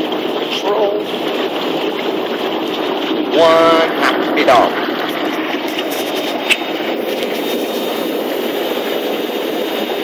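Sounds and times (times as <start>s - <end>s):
tub jets churning water: 0.0s - 10.0s.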